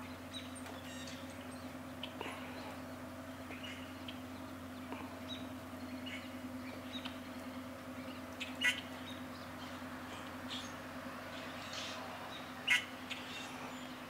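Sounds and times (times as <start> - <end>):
birds chirping and calling: 0.0 - 14.0
ship engines droning: 0.0 - 14.0.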